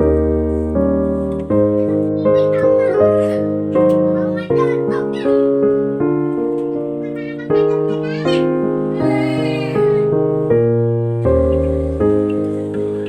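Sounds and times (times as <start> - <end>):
piano-like keyboard music: 0.0 - 13.0.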